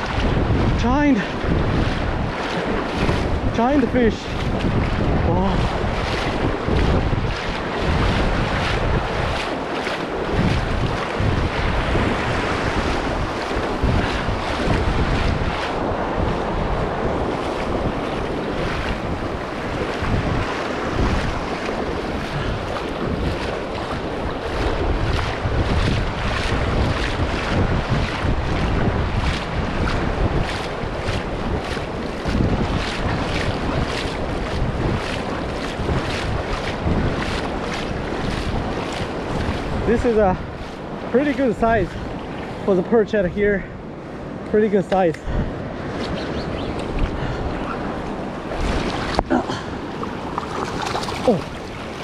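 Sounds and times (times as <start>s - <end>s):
surf breaking: 0.0s - 42.9s, 44.6s - 52.0s
wind buffeting microphone: 0.0s - 52.0s.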